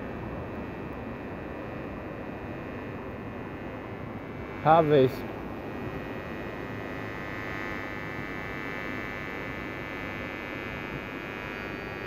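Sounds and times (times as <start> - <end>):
train electrical hum and whine: 0.0 - 12.0.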